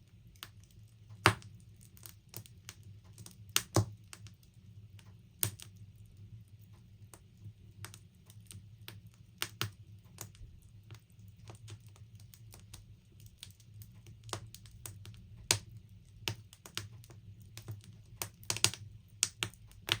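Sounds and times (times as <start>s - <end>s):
logs crackling in fire: 0.0s - 20.0s.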